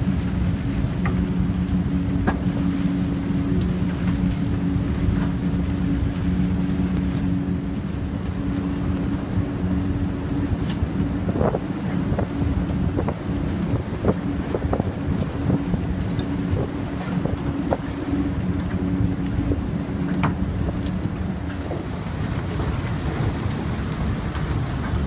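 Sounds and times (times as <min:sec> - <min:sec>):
excavator mechanical drone: 0:00.0 - 0:25.0.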